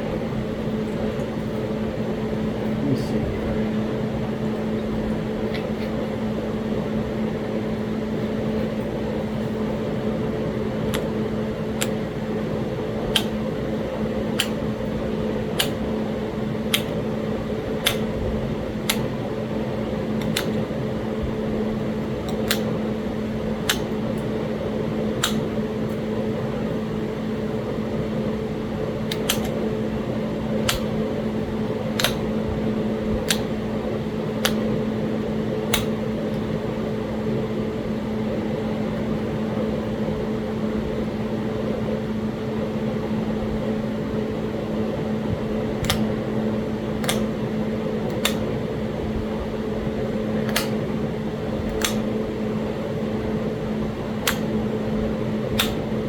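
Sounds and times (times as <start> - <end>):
fan humming: 0.0 - 56.0.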